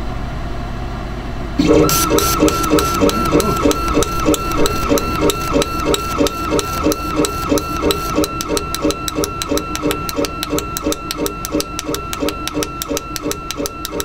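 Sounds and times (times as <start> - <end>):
motor reversal clicks: 1.6 - 14.0
stepper motor whine: 1.6 - 14.0.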